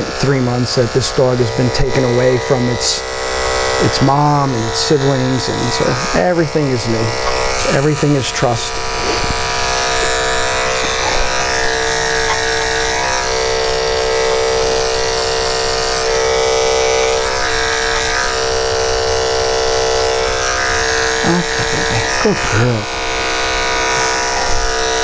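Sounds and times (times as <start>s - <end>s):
electric clipper buzzing: 0.0s - 25.0s.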